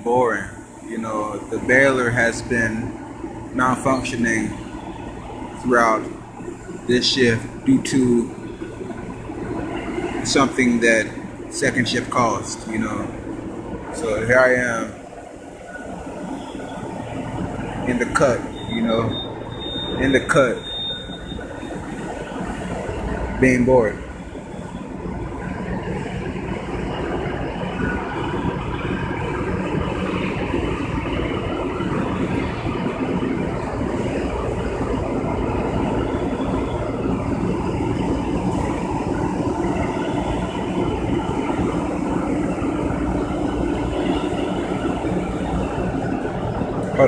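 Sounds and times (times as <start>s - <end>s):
industrial machinery drone: 0.0s - 47.0s.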